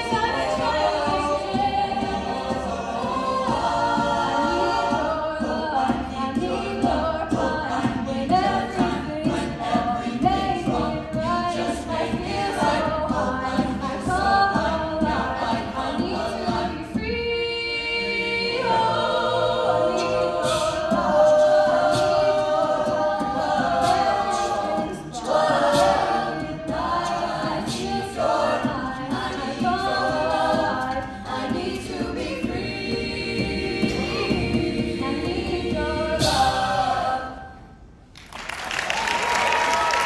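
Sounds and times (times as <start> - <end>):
a cappella ensemble singing: 0.0 - 40.0.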